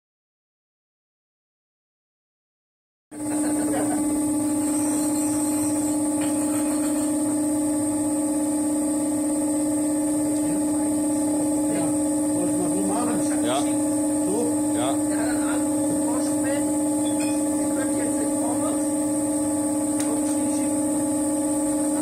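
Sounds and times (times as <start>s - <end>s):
steady low electric hum: 3.2s - 22.0s.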